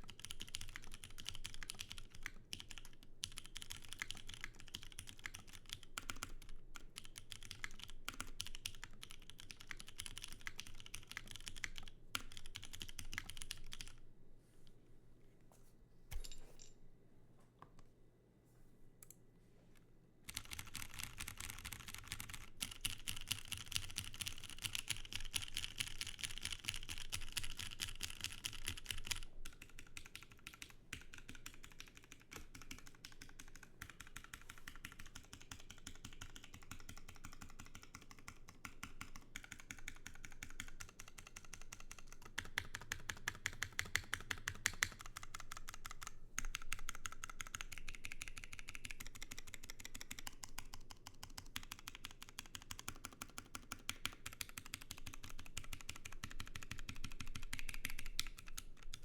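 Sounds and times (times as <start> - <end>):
mechanical keyboard typing: 0.0 - 14.0, 20.3 - 59.0.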